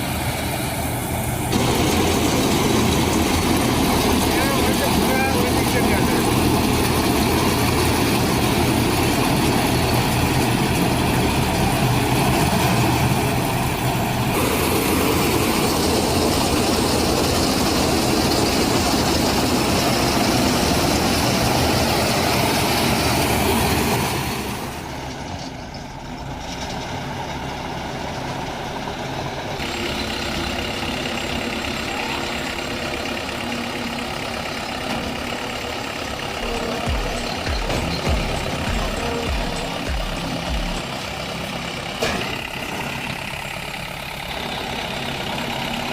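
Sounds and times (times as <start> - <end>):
machinery clatter: 0.0 - 27.4, 29.6 - 45.9
harvester engine running: 0.0 - 45.9.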